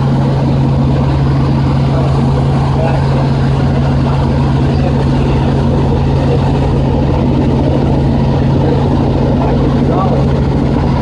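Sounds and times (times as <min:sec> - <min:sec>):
helicopter engine and rotors humming: 0:00.0 - 0:11.0.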